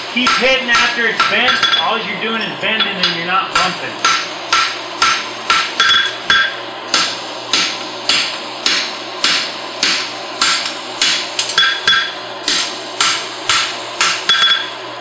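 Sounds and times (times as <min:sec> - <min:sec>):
hammer striking metal on anvil: 0:00.2 - 0:14.8.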